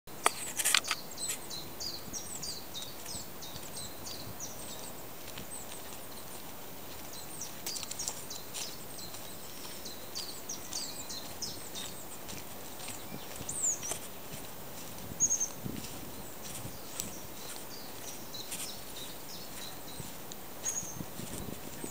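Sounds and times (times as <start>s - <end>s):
small birds chirping: 0.1s - 21.9s
steady outdoor hiss: 0.1s - 21.9s.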